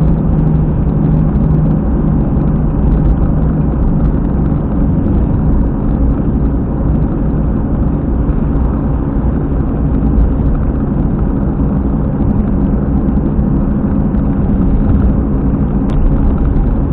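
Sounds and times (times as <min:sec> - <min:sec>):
car driving at speed: 0:00.0 - 0:16.9
low rumble from wheel bearing: 0:00.0 - 0:16.9.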